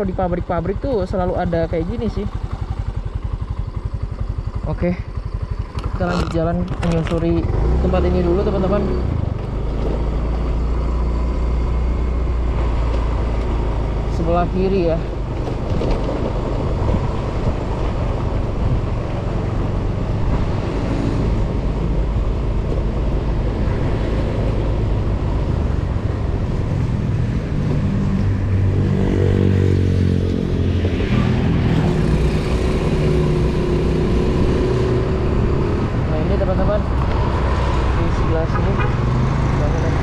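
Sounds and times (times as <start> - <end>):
motor scooter engine: 0.0 - 40.0
road rumble: 0.0 - 40.0.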